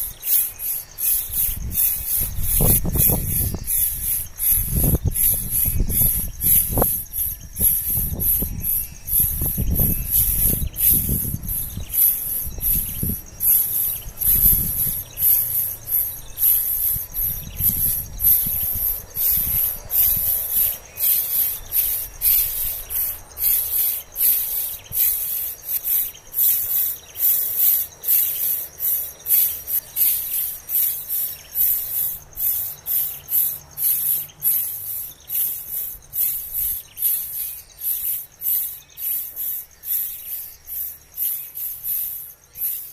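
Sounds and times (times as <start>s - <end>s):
insects pulsing chorus: 0.0s - 42.9s.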